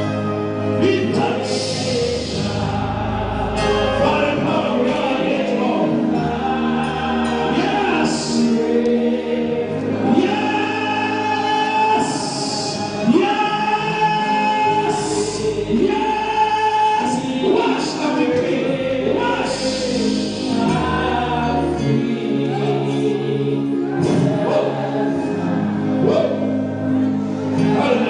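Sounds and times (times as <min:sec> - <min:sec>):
congregation singing a gospel song: 0:00.0 - 0:28.0.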